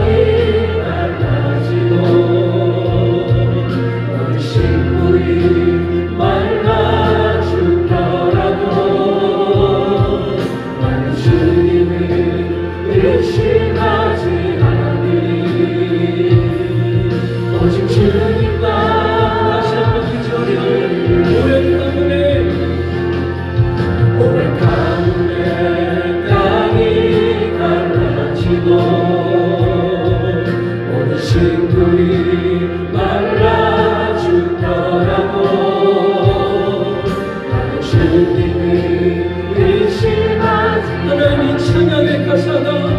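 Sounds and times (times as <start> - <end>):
choir singing a hymn: 0.0 - 42.9
low accompaniment chords: 0.0 - 42.9.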